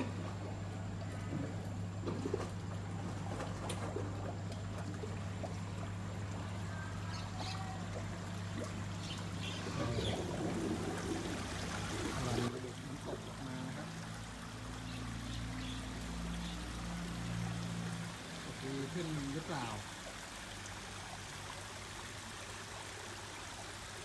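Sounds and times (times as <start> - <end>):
pump humming: 0.0 - 24.0
waterfall splashing into pond: 1.7 - 24.0.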